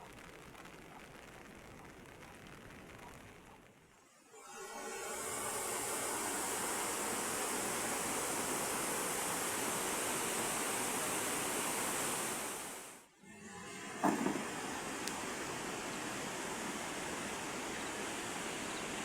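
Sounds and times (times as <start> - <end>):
heavy rain hiss: 0.0 - 13.1, 14.0 - 19.0.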